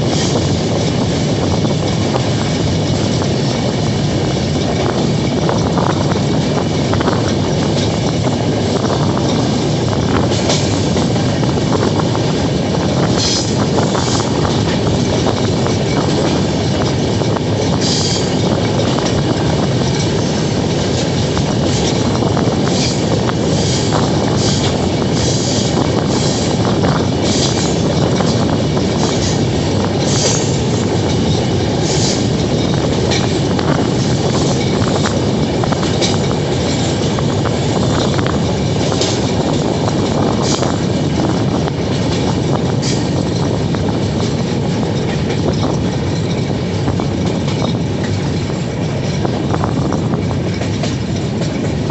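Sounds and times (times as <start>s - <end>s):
train rumbling on rails: 0.0s - 51.9s
wheels clicking over rail joints: 0.0s - 51.9s.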